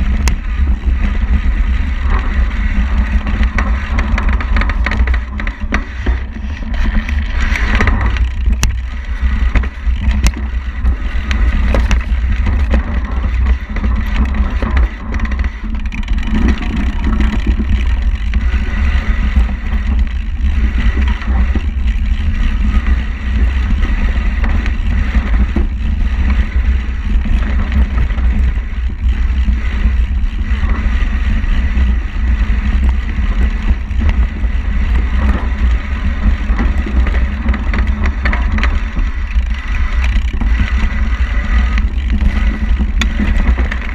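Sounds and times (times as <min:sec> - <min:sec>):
bike rattling and clicking: 0:00.0 - 0:43.9
wind rumbling on microphone: 0:00.0 - 0:43.9.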